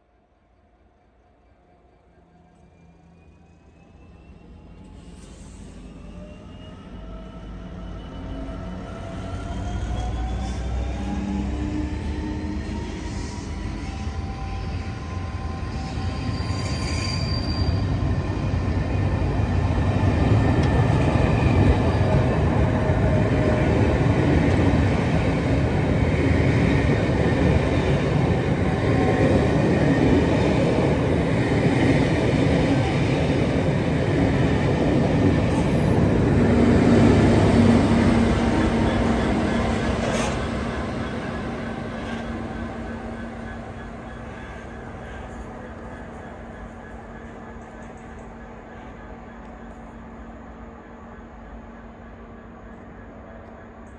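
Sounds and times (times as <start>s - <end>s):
diesel locomotive engine: 2.0s - 53.9s
train wheels rumbling on rails: 4.5s - 53.9s.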